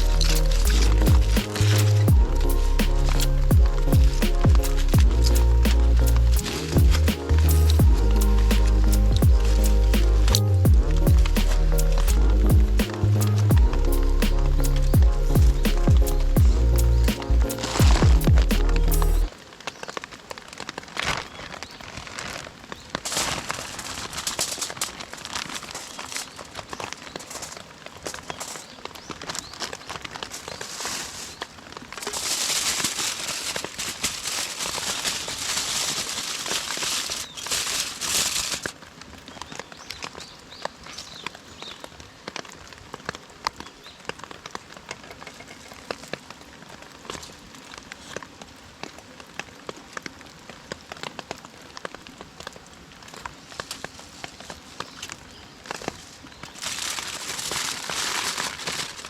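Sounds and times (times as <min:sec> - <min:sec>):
rain pattering: 0:00.0 - 0:59.0
sharp crackles and taps: 0:00.0 - 0:59.0.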